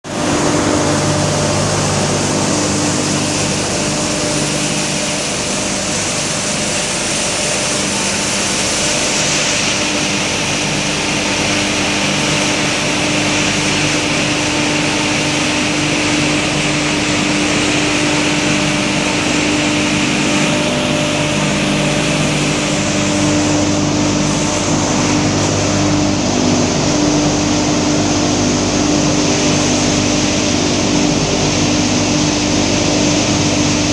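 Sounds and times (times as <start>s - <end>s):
wood crusher machine drone: 0.1s - 33.9s.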